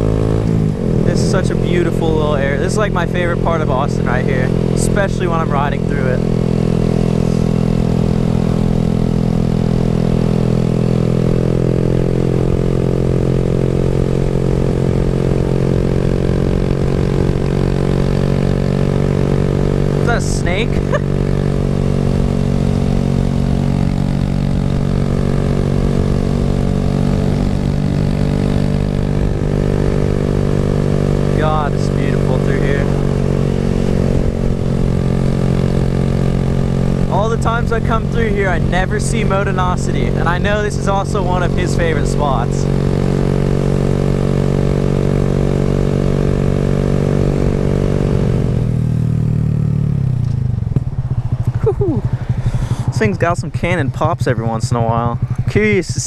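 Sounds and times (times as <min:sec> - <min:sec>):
motorcycle engine running loud: 0:00.0 - 0:56.0.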